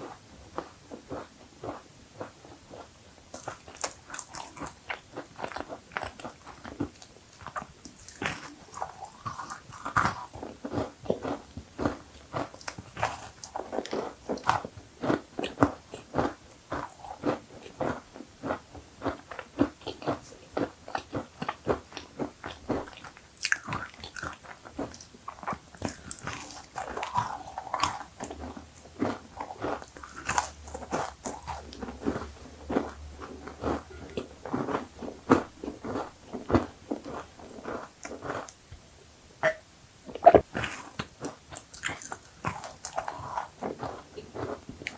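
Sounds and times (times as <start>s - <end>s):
crunching crisp cookies: 0.1s - 38.6s, 40.5s - 44.9s.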